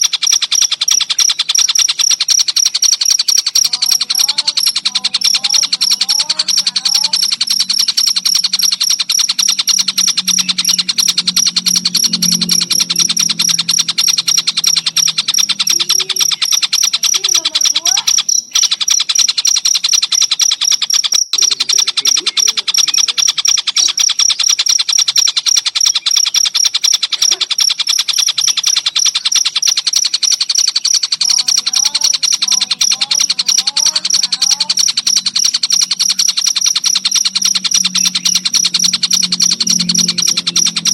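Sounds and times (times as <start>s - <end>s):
bird calls: 0.0s - 40.9s
cricket trilling: 0.0s - 40.9s.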